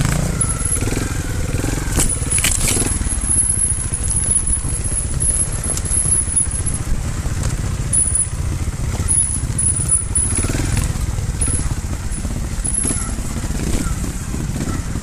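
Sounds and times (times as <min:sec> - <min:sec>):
motorbike engine low pulsing: 0:00.0 - 0:15.0.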